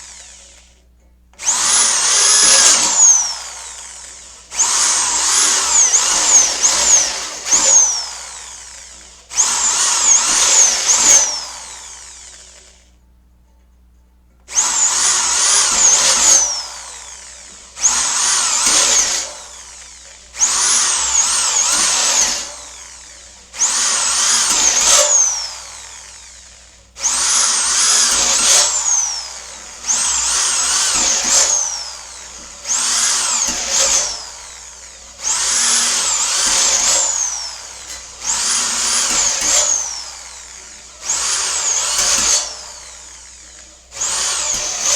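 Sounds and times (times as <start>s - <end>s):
electric drill whining through metal: 0.0s - 13.0s, 14.4s - 44.9s.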